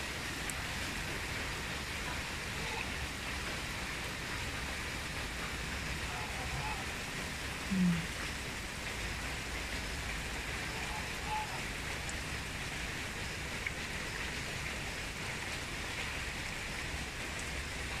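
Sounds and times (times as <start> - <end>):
rain falling on pond: 0.0 - 18.0.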